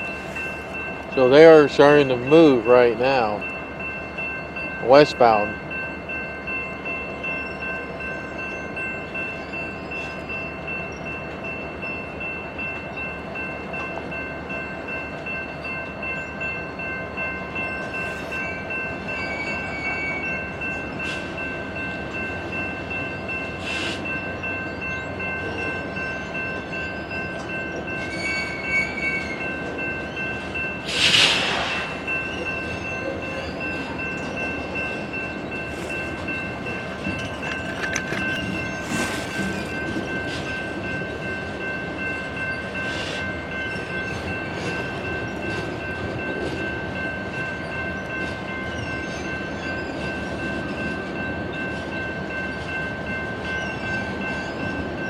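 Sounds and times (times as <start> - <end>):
train cars rumbling: 0.0 - 55.0
train clanks: 0.0 - 55.0.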